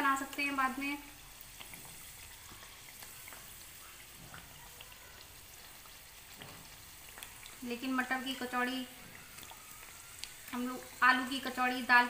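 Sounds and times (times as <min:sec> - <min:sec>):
deep-frying sizzle with crackles: 0:00.0 - 0:12.0.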